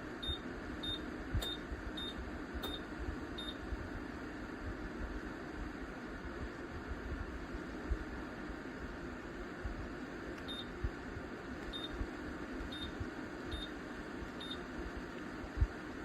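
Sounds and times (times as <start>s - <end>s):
fan heater blowing air: 0.0s - 16.0s.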